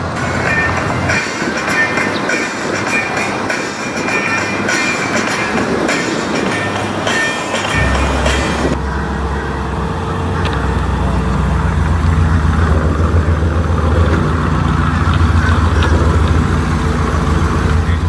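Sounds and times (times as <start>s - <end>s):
pickup truck engine rumble: 0.0s - 18.0s.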